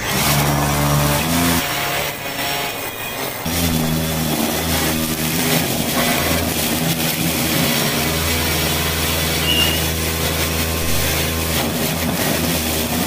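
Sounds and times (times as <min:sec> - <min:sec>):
grass cutter cutting grass: 0:00.0 - 0:13.0.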